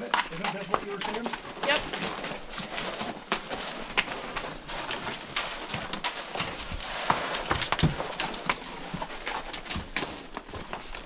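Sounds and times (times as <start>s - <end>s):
horse hooves on gravel: 0.0s - 11.0s.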